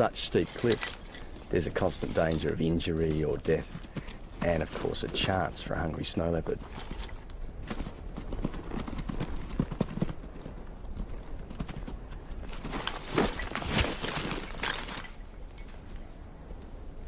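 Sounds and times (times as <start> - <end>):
hooves clattering on rock: 0.0 - 16.0.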